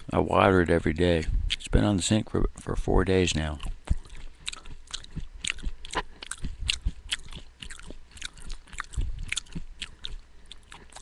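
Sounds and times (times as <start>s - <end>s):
crunchy chewing with wet mouth clicks: 0.0s - 1.9s, 2.6s - 11.0s.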